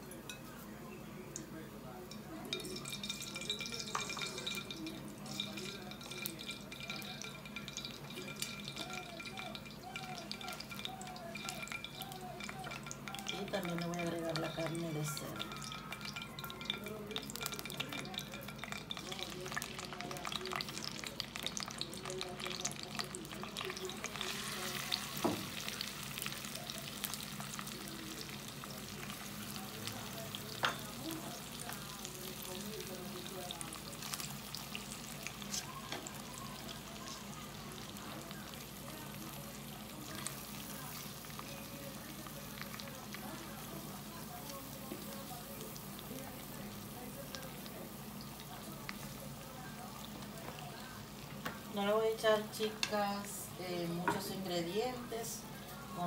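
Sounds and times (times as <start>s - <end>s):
oil crackling in a pot: 0.0s - 56.0s.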